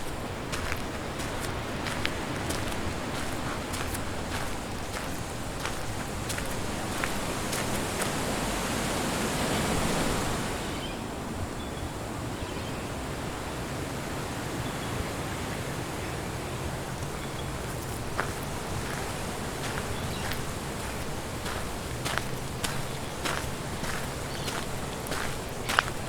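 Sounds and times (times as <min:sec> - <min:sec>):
wind gusting through trees: 0:00.0 - 0:26.0.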